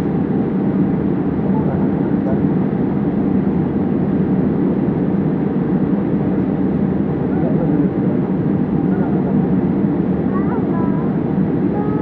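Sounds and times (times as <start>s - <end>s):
airplane cabin rumble and hiss: 0.0s - 12.0s.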